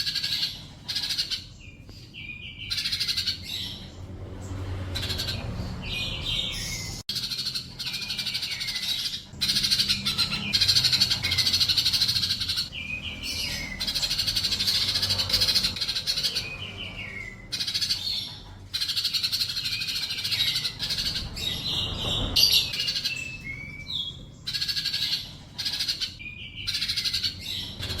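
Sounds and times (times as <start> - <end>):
bird chattering song: 0.0 - 28.0.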